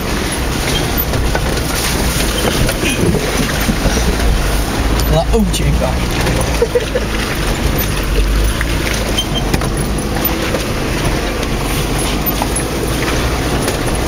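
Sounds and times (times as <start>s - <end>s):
car body knocks and rattles: 0.0s - 5.1s, 6.1s - 14.0s
car engine running inside cabin: 0.0s - 14.0s.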